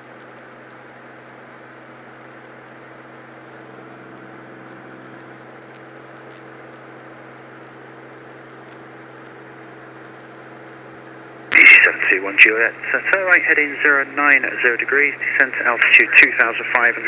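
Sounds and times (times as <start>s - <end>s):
airplane engine and propeller drone: 0.0s - 17.0s.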